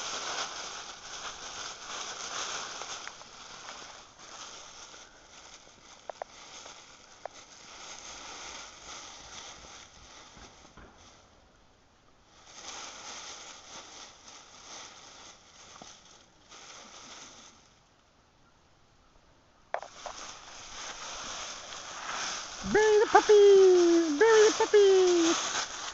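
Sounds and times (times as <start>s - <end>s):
dry leaves rustling and crunching: 0.0s - 11.4s, 12.2s - 17.9s, 19.8s - 25.9s.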